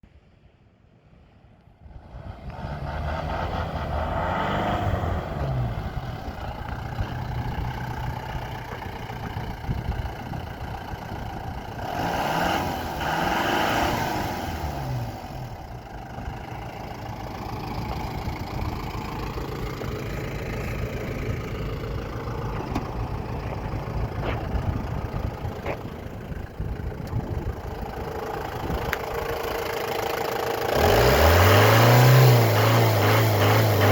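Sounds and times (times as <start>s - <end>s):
truck engine idling and revving: 0.4s - 33.9s.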